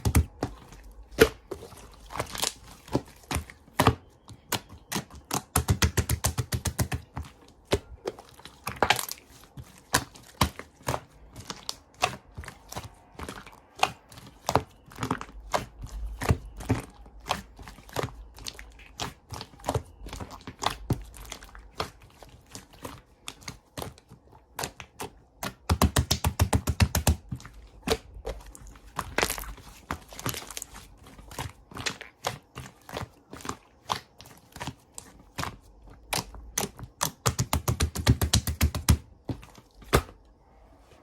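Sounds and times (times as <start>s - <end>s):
slime squished by hand: 0.0s - 40.3s.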